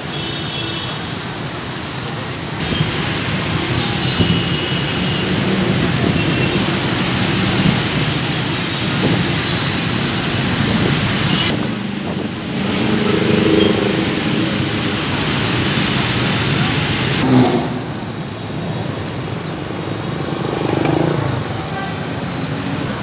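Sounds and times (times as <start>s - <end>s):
street traffic of motorbikes and cars: 0.0s - 23.0s.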